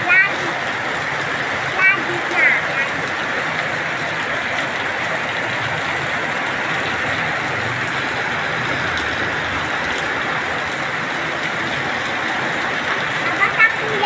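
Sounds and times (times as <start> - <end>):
heavy rain: 0.0 - 14.0
water streaming off roof: 0.0 - 14.0.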